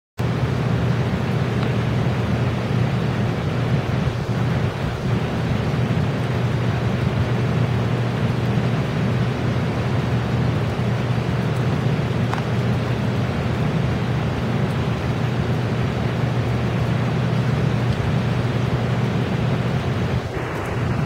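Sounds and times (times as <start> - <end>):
low hum: 0.2 - 21.0.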